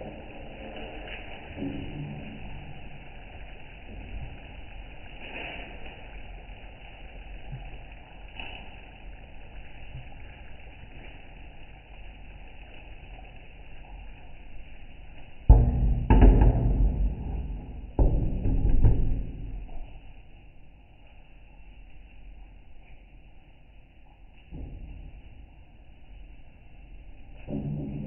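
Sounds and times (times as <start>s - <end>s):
pot boiling with bubbling hiss: 0.0s - 28.0s.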